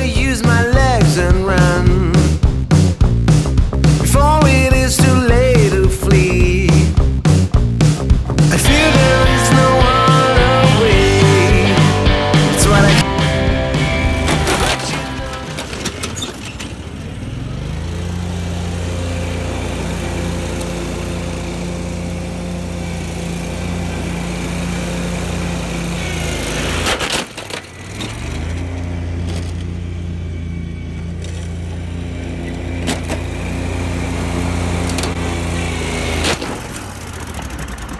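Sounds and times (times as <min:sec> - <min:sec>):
mower engine at high revs: 0:00.0 - 0:37.9.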